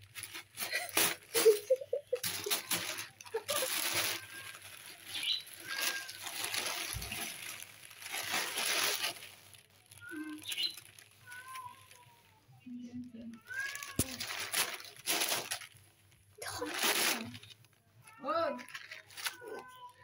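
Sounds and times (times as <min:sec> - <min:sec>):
plastic bag crinkling: 0:00.0 - 0:12.3, 0:13.1 - 0:20.0.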